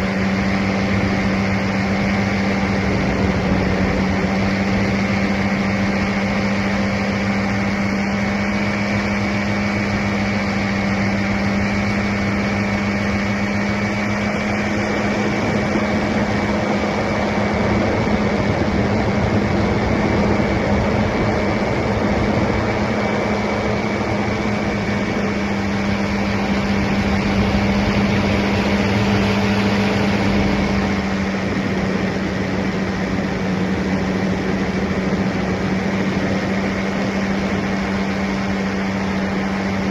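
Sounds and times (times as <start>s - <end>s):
paramotor engine drone: 0.0s - 39.9s.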